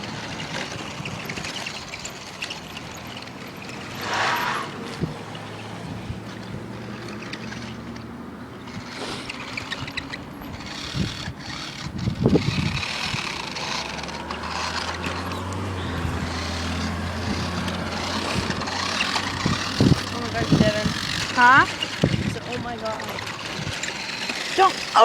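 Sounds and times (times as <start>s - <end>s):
toy truck motor running: 0.0s - 25.0s.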